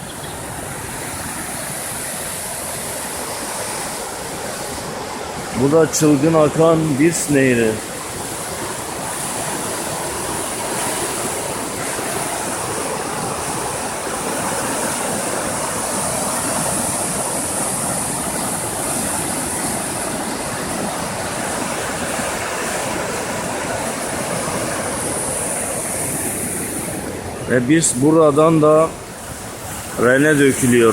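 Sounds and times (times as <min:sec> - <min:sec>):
river water rushing in a roar: 0:00.0 - 0:30.9.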